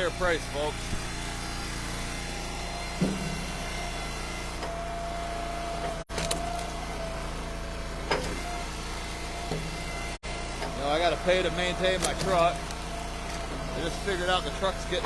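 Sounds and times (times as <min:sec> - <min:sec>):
wood splitter engine running: 0:00.0 - 0:15.0.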